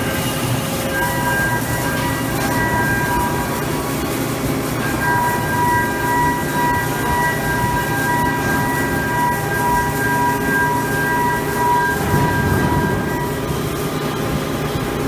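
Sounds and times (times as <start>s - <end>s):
high-pitched machine whine: 0.0s - 15.0s
low machinery rumble: 0.8s - 15.0s.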